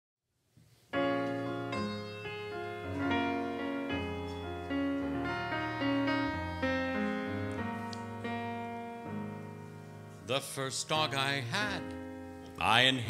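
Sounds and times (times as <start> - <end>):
piano playing slow chords: 0.9 - 13.0.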